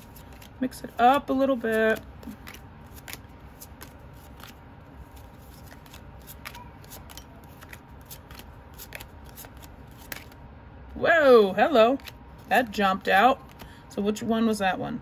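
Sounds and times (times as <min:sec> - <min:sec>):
cards being shuffled: 0:00.0 - 0:10.4, 0:11.9 - 0:13.8.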